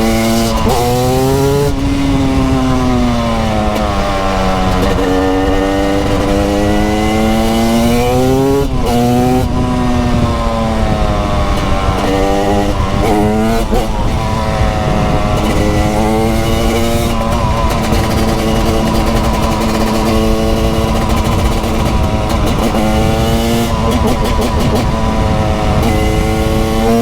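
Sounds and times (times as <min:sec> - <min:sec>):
two-stroke engine revving: 0:00.0 - 0:27.0.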